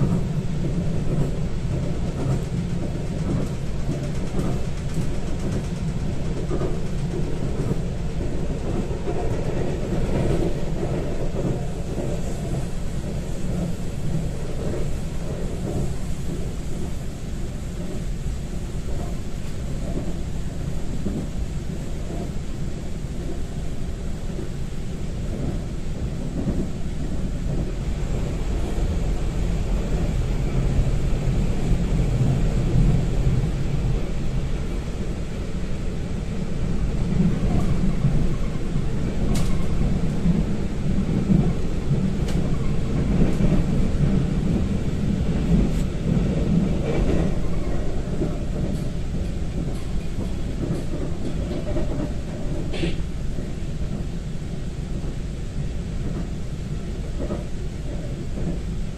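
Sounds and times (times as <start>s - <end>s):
train rumble inside carriage: 0.0s - 58.9s.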